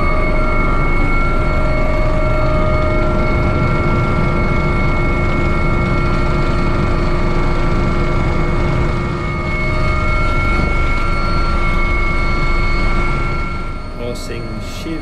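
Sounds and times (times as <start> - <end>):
constant whining tones: 0.0 - 15.0
helicopter rotor and engine rumble: 0.0 - 15.0.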